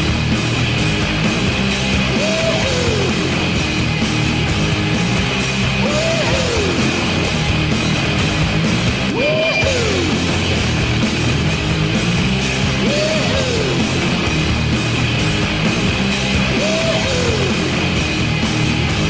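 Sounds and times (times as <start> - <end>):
heavy rock song: 0.0 - 19.0.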